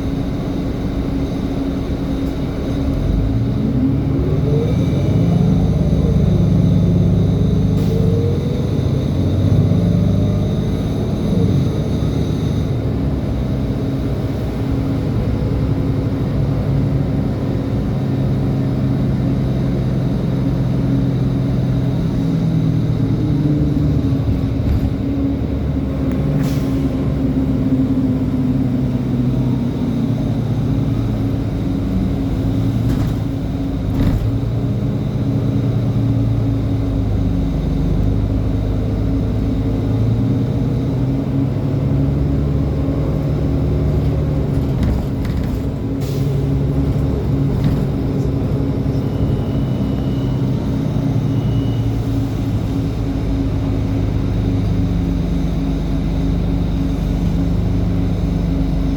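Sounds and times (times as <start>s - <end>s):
bus engine running: 0.0s - 58.9s.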